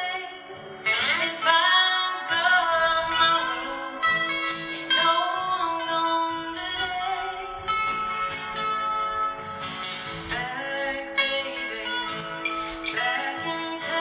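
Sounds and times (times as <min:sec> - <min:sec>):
woman singing: 0:00.0 - 0:08.2, 0:10.2 - 0:14.0
acoustic guitars strummed and picked: 0:00.0 - 0:14.0.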